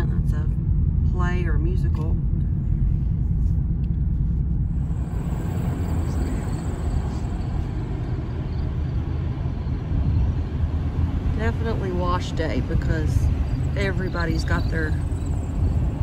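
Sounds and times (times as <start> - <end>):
car engine rumble: 0.0 - 16.0
road noise hiss: 2.5 - 16.0.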